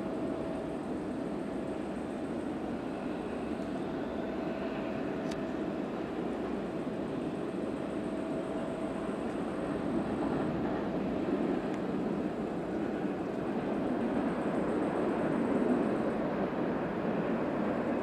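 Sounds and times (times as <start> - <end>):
distant jet engines rushing: 0.0 - 18.0.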